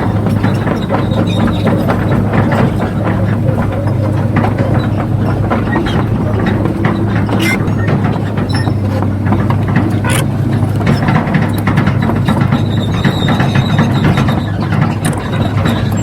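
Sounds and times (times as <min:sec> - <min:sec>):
electric motors humming: 0:00.0 - 0:16.0
gears clicking and clattering: 0:00.0 - 0:16.0.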